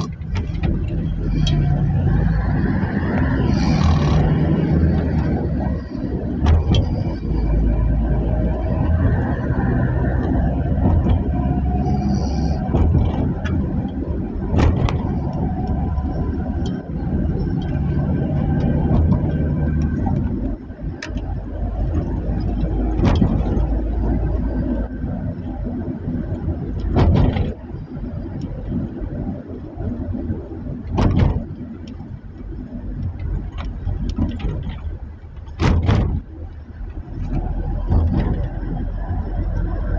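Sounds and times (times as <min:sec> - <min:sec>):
car driving through floodwater: 0:00.0 - 0:39.9
vehicle engine rumbling: 0:00.0 - 0:39.9.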